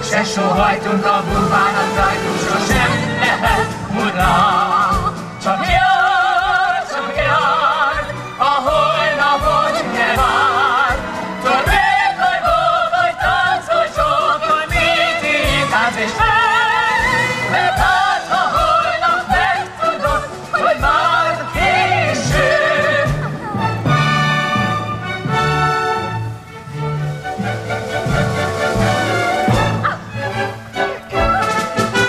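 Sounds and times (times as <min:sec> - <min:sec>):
operetta singers with vibrato: 0:00.0 - 0:25.9
symphony orchestra: 0:00.0 - 0:32.0.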